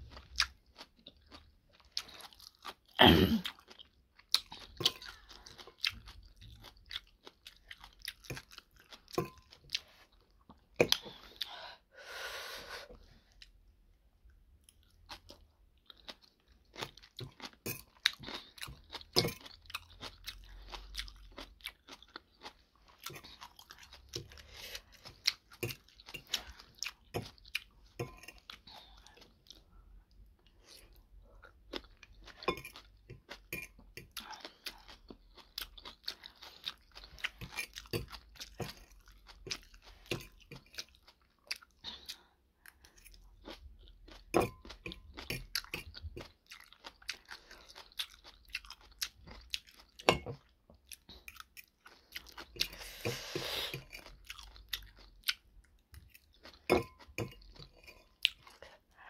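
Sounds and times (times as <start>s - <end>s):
chewing and crunching: 0.0s - 11.6s, 14.6s - 59.0s.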